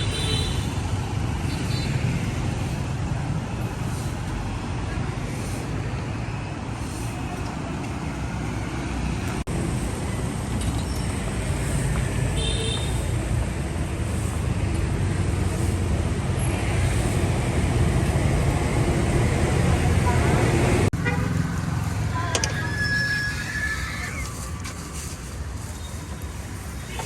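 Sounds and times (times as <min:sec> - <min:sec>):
street traffic rumble: 0:00.0 - 0:27.0.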